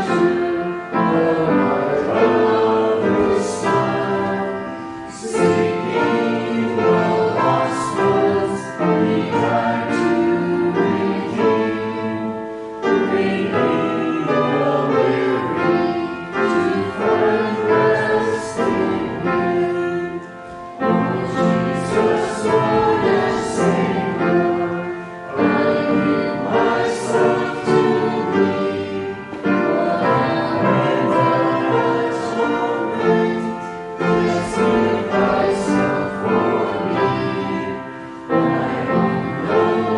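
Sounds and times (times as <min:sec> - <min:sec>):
choir singing a hymn: 0:00.0 - 0:39.9
piano accompaniment: 0:00.0 - 0:39.9.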